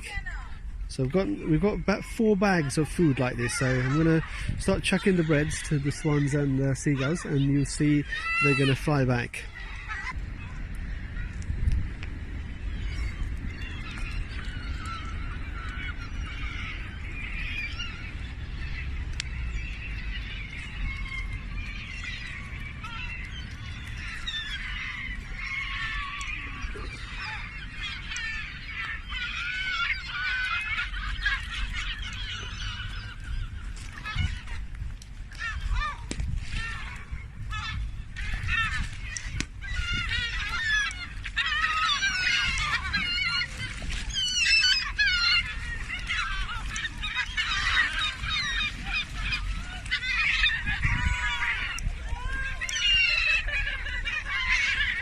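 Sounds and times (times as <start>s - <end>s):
gulls and geese calling: 0.0s - 55.0s.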